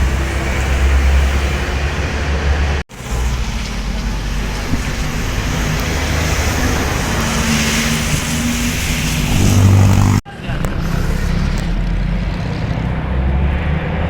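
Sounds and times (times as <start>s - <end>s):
bus engine rumbling: 0.0s - 14.0s
road and traffic noise: 0.0s - 14.0s.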